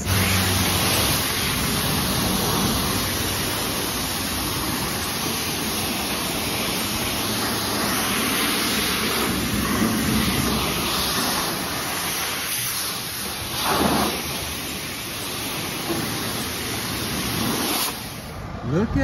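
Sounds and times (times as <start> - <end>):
pressure washer spraying water: 0.0 - 18.4.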